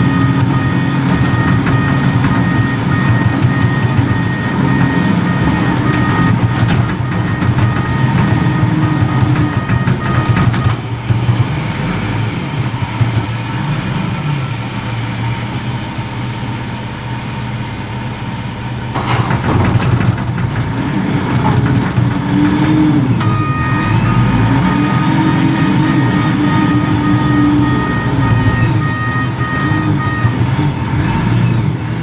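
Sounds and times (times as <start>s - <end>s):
machine whine: 0.0s - 20.1s, 23.2s - 31.7s
diesel engine drone: 0.0s - 32.0s.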